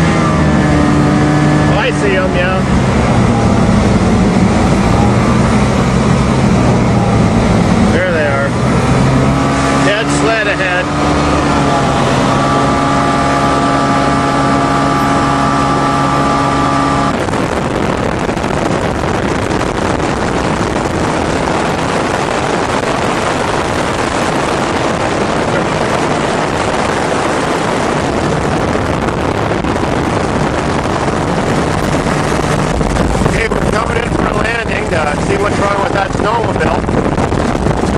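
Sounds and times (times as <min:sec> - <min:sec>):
engine running: 0:00.0 - 0:37.9
loud even rushing noise: 0:00.0 - 0:37.9.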